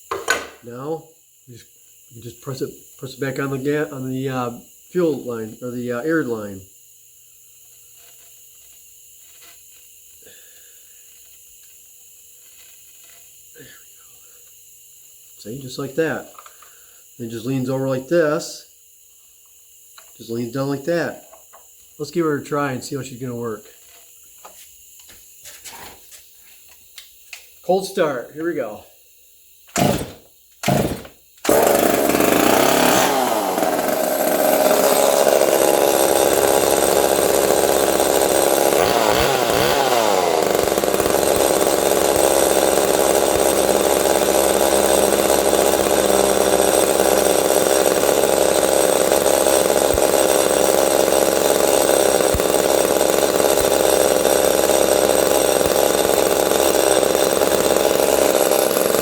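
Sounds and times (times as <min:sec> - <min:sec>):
chainsaw engine running: 0:00.0 - 0:06.7, 0:07.6 - 0:14.6, 0:15.3 - 0:18.7, 0:20.0 - 0:26.2, 0:29.7 - 0:59.0.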